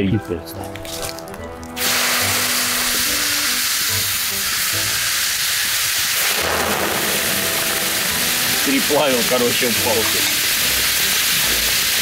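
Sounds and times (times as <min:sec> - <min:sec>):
hot stone sizzling in water: 0:00.8 - 0:12.0.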